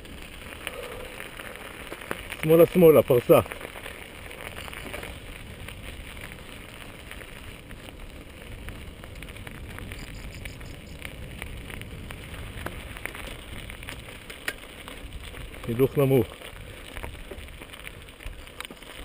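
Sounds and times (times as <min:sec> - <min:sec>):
bike tyres crunching on gravel: 0:00.0 - 0:19.0
stones and bike rattling: 0:00.0 - 0:19.0.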